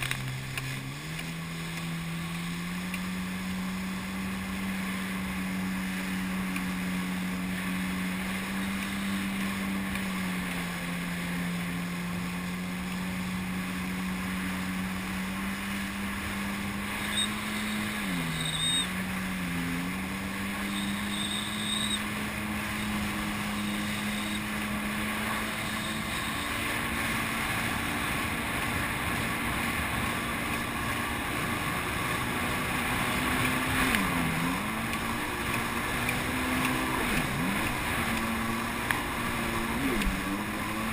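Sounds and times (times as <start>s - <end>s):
jet ski engine running: 0.0s - 40.9s
rushing wind and water: 0.0s - 40.9s.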